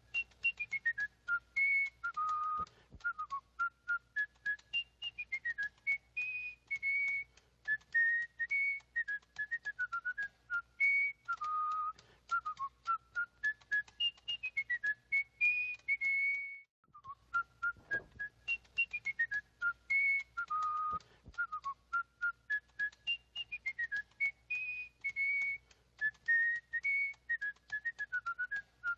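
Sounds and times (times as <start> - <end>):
whistled melody: 0.0 - 28.9.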